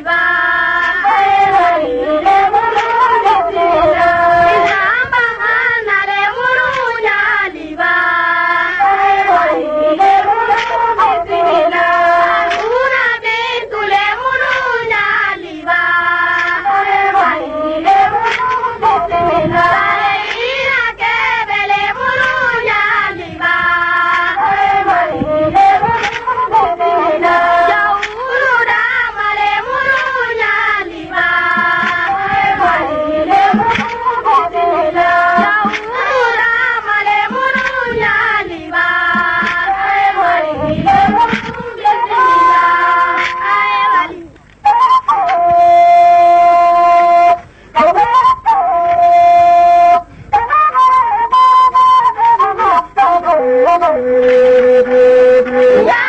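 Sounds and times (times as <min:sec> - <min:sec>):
backing music: 0:00.0 - 0:56.0
high voice singing: 0:00.0 - 0:56.0.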